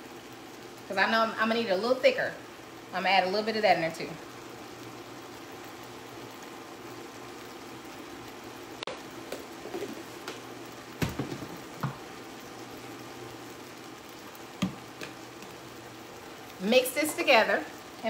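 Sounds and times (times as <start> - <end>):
vegetables sizzling in pot: 0.0 - 18.0.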